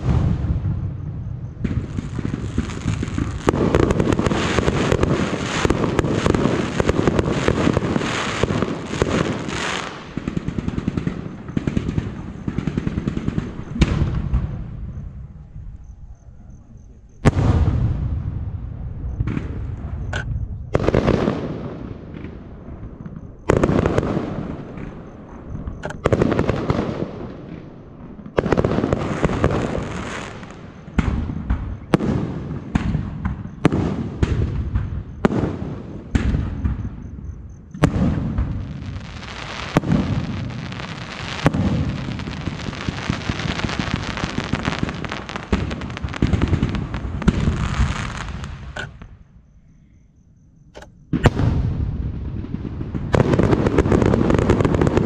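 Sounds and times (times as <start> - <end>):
fireworks bursting with echo: 0.0 - 15.4, 17.2 - 37.0, 37.7 - 49.2, 51.1 - 55.0.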